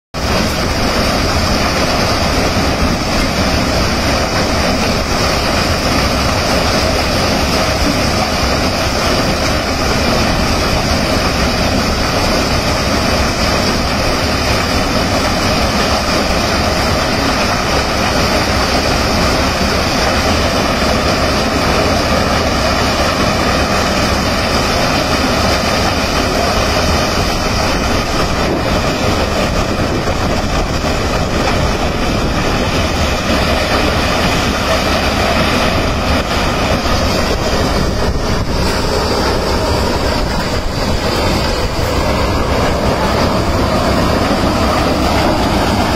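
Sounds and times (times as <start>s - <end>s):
thresher running: 0.2s - 45.9s.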